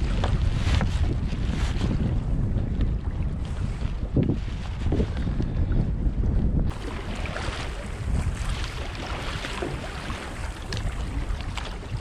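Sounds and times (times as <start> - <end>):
water slapping against kayak hull: 0.0 - 5.5, 6.7 - 12.0
wind buffeting microphone: 0.0 - 12.0.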